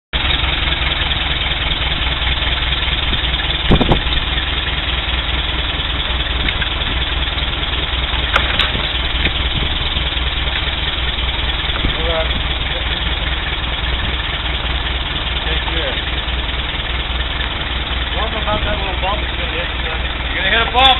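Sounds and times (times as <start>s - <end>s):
engine idling: 0.1s - 20.9s.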